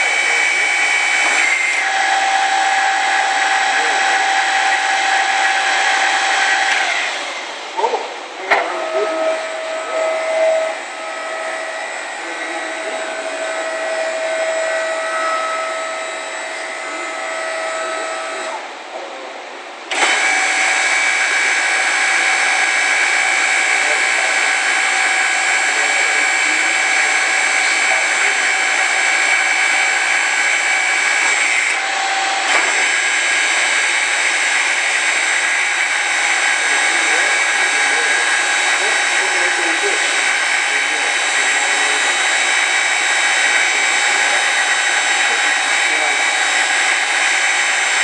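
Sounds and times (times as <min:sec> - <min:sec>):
machinery motor whine: 0:00.0 - 0:19.2, 0:19.9 - 0:48.0.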